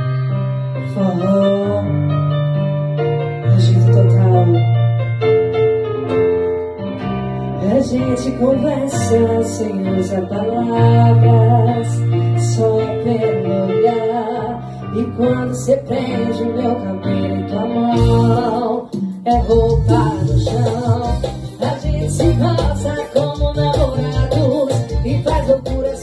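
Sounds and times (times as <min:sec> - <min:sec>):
keyboard accompaniment: 0:00.0 - 0:26.0
woman singing into a microphone: 0:00.8 - 0:02.2, 0:03.4 - 0:04.7, 0:07.5 - 0:26.0.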